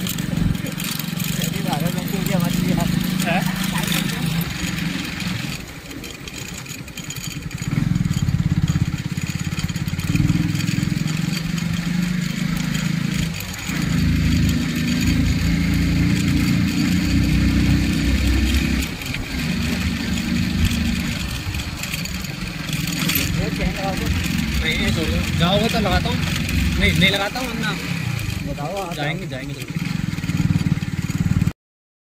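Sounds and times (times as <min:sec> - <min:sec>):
motorcycle engine running: 0:00.0 - 0:31.5.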